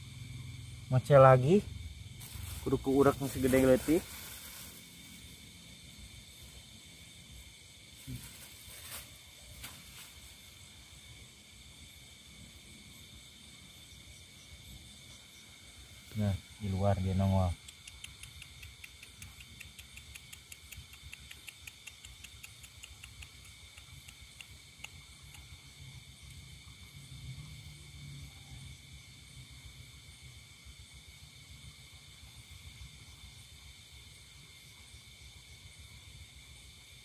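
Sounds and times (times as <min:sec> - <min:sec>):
crickets and insects trilling: 0:00.0 - 0:37.0
quick pulsing insect call: 0:00.0 - 0:37.0.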